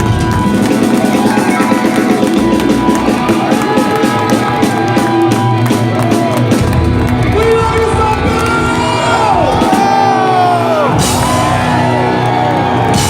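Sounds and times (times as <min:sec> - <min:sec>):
live heavy rock band: 0:00.0 - 0:13.0.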